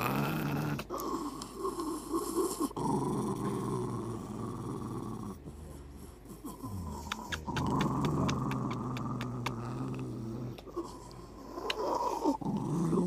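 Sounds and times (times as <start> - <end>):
dog growling: 0.0 - 13.0.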